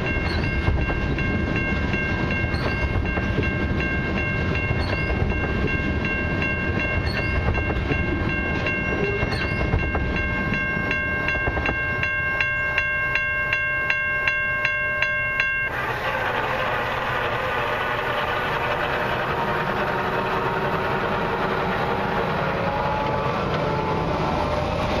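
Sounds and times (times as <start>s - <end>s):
crossing warning bell ringing: 0.0s - 25.0s
train cars rumbling past: 0.0s - 25.0s.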